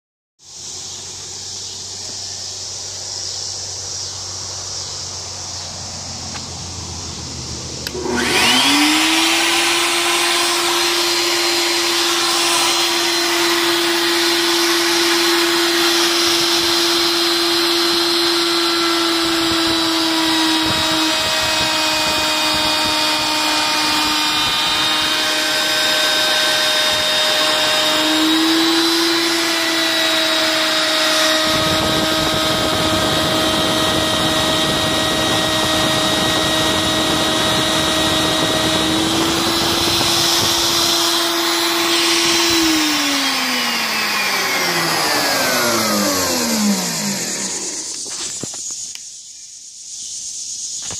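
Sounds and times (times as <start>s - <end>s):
electric router high whine: 0.4s - 49.1s.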